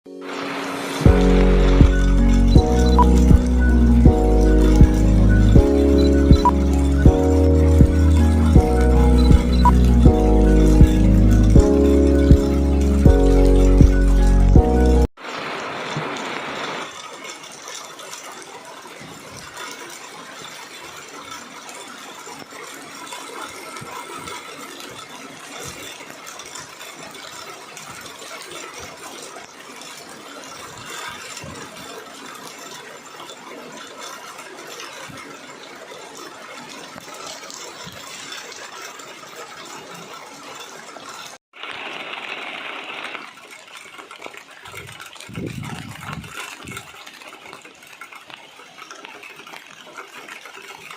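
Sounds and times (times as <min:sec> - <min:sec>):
drips pattering on hard surfaces: 0:00.1 - 0:50.9
steady rain: 0:00.1 - 0:50.9.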